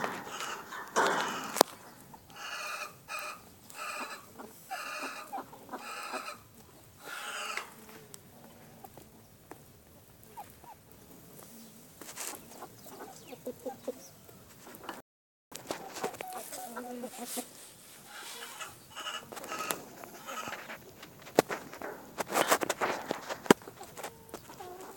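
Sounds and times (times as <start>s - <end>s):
chickens clucking: 0.0s - 15.0s, 15.6s - 24.9s.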